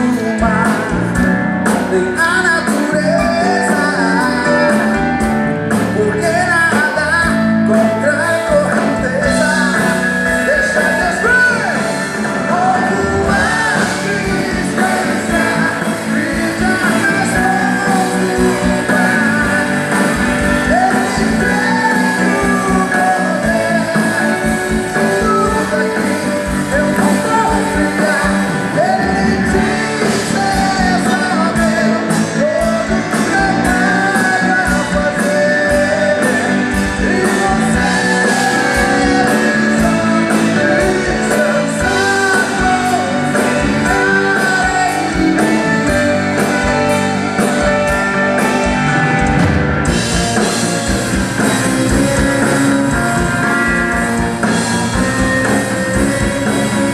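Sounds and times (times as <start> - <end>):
man singing into microphone: 0.0 - 47.7
live band playing: 0.0 - 56.9.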